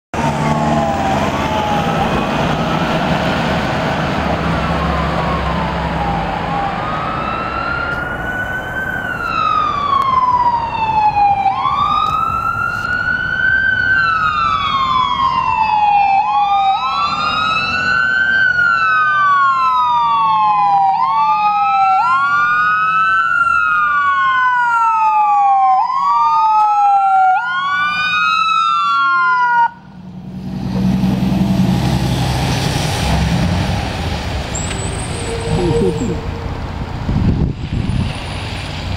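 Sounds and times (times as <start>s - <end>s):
second siren wailing: 0.2s - 3.3s, 4.2s - 29.9s, 34.5s - 36.9s
fire engine siren wailing: 0.2s - 38.9s.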